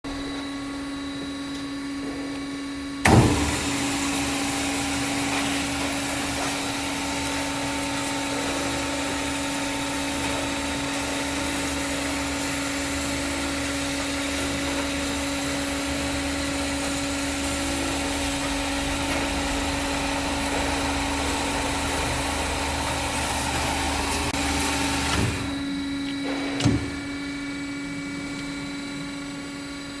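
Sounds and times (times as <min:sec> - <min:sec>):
machine hum: 0:00.0 - 0:30.0
band saw whirring: 0:00.1 - 0:30.0.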